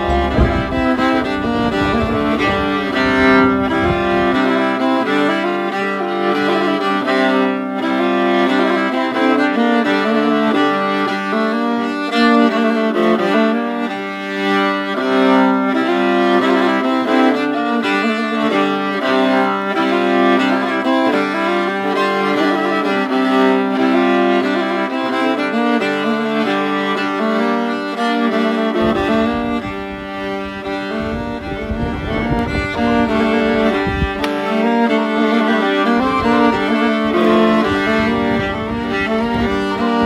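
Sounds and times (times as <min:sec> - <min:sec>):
slow music with sustained notes: 0:00.0 - 0:40.0.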